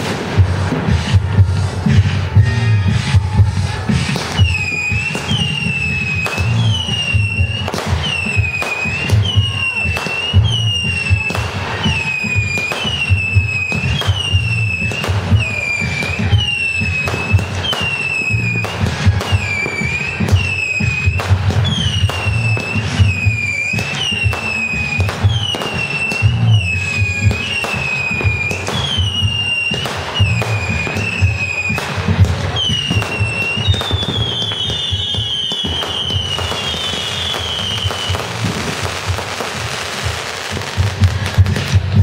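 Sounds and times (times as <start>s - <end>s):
fireworks falling whistle: 0.0s - 42.0s
fireworks popping: 0.0s - 42.0s.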